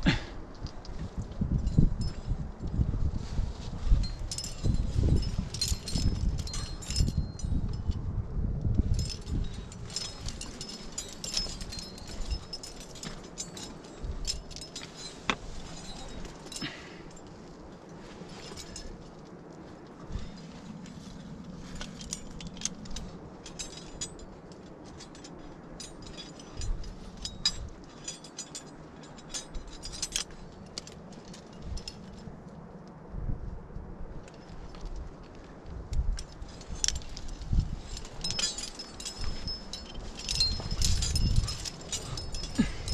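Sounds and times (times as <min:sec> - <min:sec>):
climbing hardware clinking: 0:00.1 - 0:32.9, 0:34.2 - 0:42.9.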